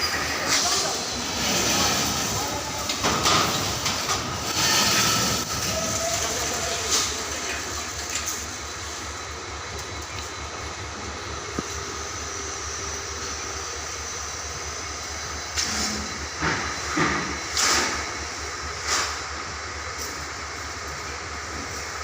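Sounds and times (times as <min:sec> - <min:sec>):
train rumbling and clattering: 0:00.0 - 0:22.0.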